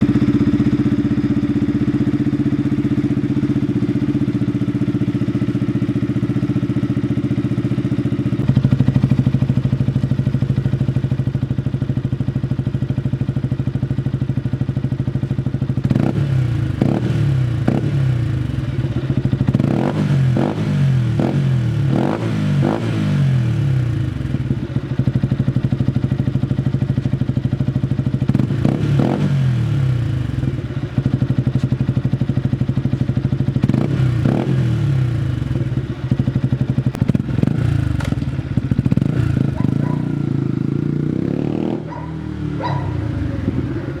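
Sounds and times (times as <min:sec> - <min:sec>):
motorcycle engine idling and revving: 0:00.0 - 0:44.0.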